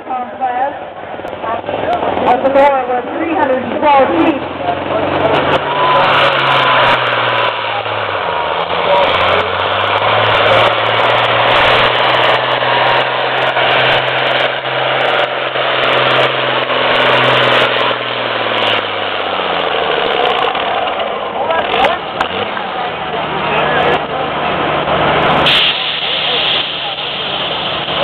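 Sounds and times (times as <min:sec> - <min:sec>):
diesel engine running hard: 0:00.0 - 0:28.0.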